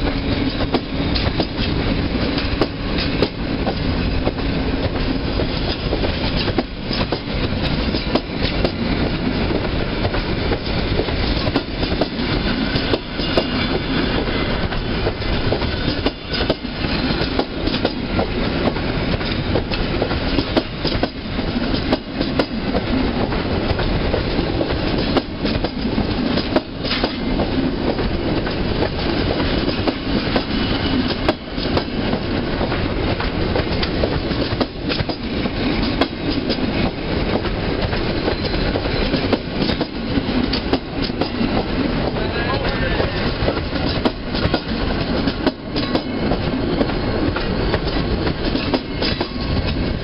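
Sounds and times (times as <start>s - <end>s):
train wheels rumbling on rail: 0.0s - 50.0s
wheels clacking on rail joints: 0.0s - 50.0s.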